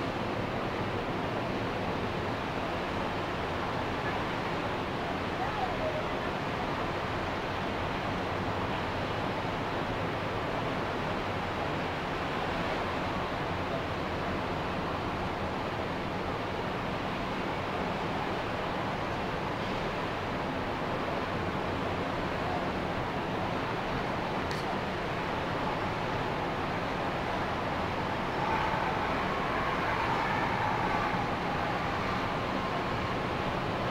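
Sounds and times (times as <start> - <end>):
ocean waves washing on beach: 0.0 - 33.9.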